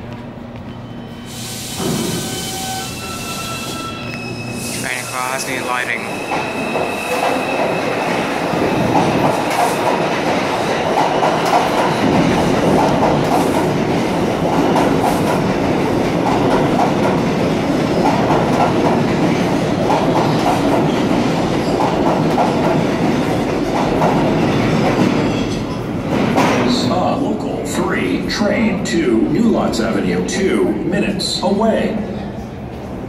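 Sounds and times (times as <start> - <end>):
subway train wheels on rails: 0.0 - 33.0.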